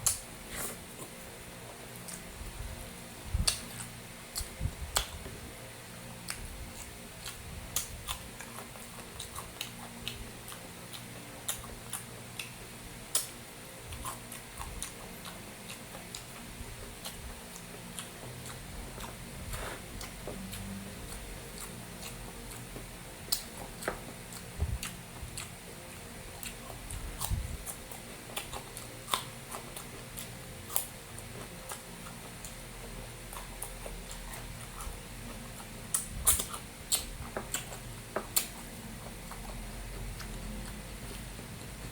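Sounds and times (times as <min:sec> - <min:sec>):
person chewing food: 0:00.0 - 0:05.3, 0:06.2 - 0:41.9.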